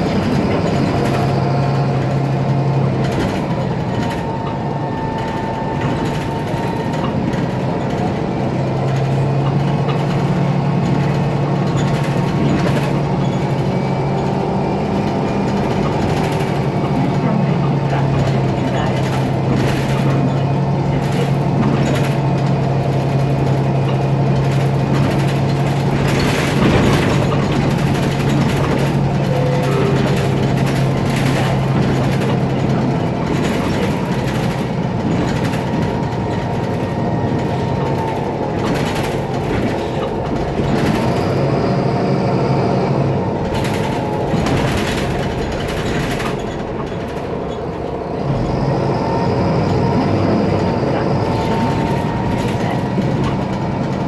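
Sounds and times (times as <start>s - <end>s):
bus diesel engine drone: 0.0s - 54.0s.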